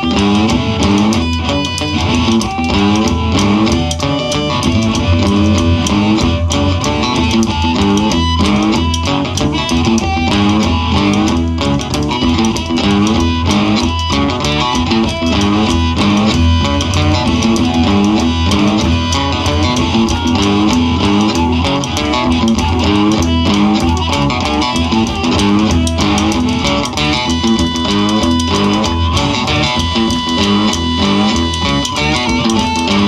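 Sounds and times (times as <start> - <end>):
amplified harmonica: 0.0 - 33.0
cigar box guitars: 0.0 - 33.0
steady drum beat: 0.0 - 33.0.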